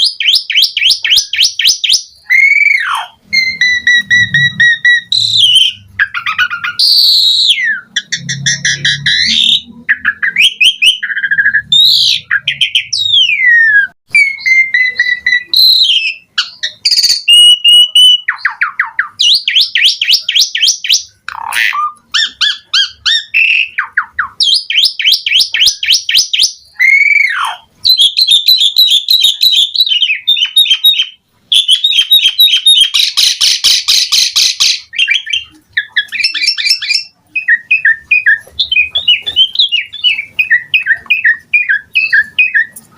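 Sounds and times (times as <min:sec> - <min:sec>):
starling singing: 0:00.0 - 0:42.9.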